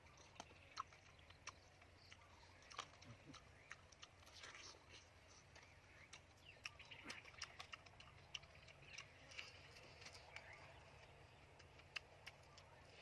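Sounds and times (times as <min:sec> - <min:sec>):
soft chirping: 0:00.0 - 0:13.0.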